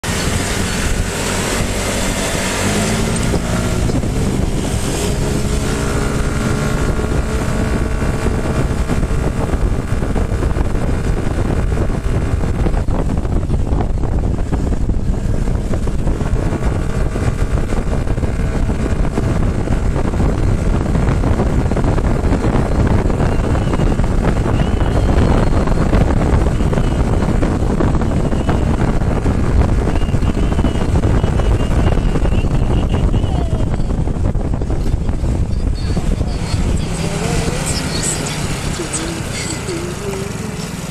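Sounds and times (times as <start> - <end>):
scooter engine accelerating: 0.0 - 40.9
wind noise on microphone: 0.0 - 40.9.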